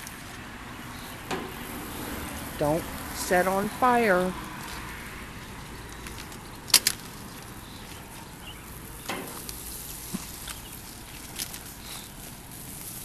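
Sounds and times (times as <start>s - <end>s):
potatoes sizzling on a grill: 0.0s - 13.0s.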